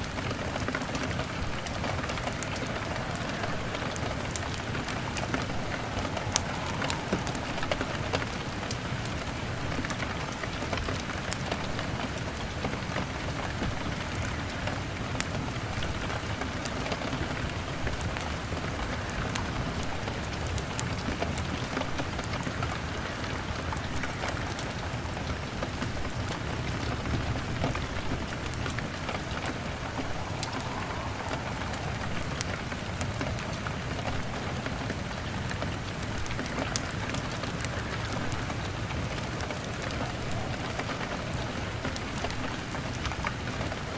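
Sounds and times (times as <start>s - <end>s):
rain pattering on a window: 0.0s - 43.9s
wood fire crackling: 0.0s - 43.9s.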